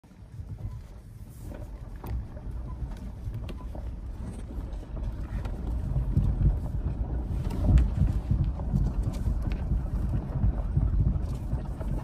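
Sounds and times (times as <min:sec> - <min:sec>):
vehicle rumble: 0:00.0 - 0:12.0
wind buffeting microphone: 0:00.1 - 0:12.0
knocks and rattles: 0:00.3 - 0:12.0.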